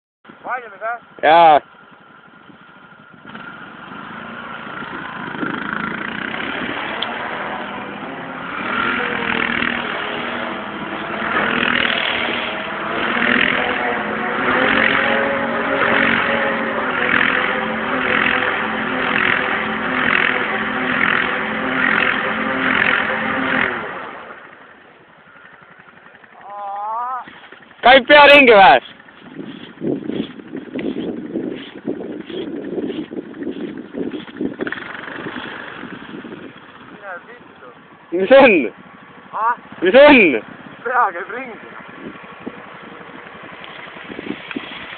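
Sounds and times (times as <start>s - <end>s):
quad bike engine revving: 0.5s - 44.9s.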